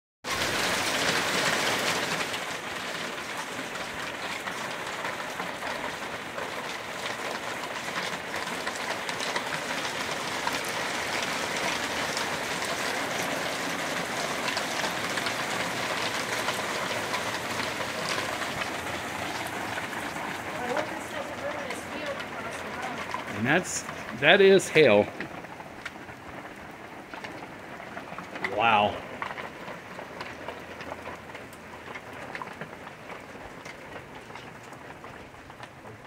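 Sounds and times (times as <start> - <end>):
hail clattering on ground and roof: 0.2 - 36.0.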